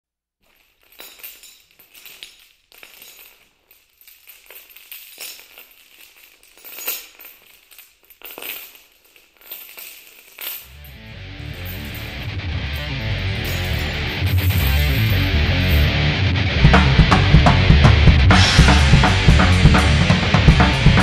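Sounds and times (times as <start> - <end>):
metal chains rattling: 0.4 - 17.5.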